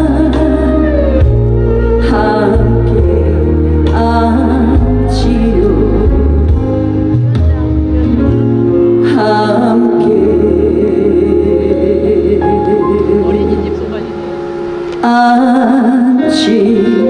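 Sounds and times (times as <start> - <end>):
woman singing into a microphone: 0.0 - 7.1, 8.8 - 17.0
instrumental accompaniment with bass: 0.0 - 17.0.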